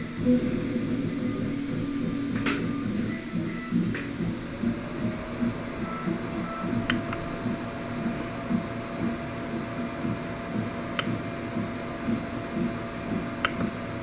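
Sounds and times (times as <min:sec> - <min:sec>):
printer motors humming and whirring: 0:00.0 - 0:14.0.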